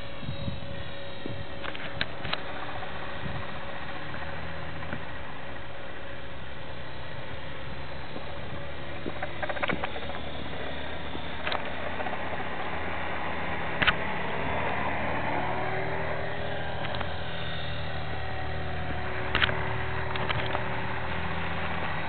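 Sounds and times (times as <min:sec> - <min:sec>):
rc helicopter hovering: 0:00.0 - 0:22.0.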